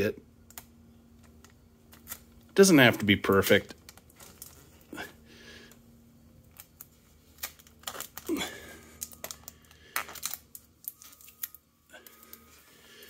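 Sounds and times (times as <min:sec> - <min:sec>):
packing tape crackling: 0:00.4 - 0:05.1, 0:06.4 - 0:13.0.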